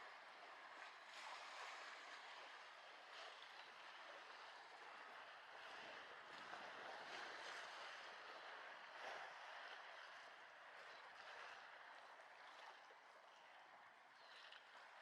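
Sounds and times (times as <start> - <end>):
small waves lapping on shore: 0.0 - 15.0.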